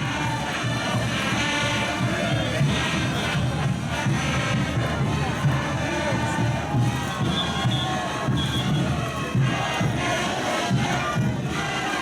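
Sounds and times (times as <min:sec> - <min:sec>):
crowd voices: 0:00.0 - 0:12.0
parade music with drum beat: 0:00.0 - 0:12.0.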